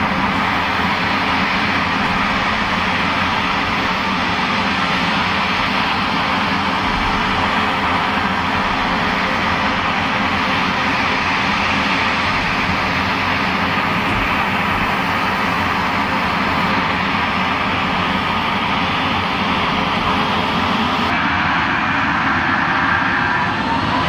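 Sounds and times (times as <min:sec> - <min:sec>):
jet engines idling: 0:00.0 - 0:24.0.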